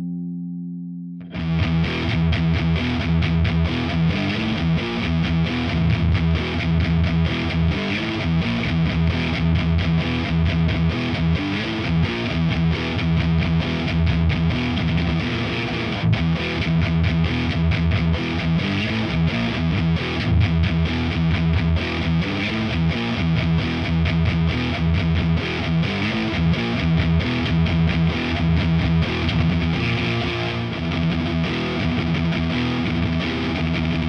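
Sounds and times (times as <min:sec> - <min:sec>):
distorted electric guitar riff: 0:00.0 - 0:34.0
electric guitar chord ringing: 0:00.0 - 0:34.0.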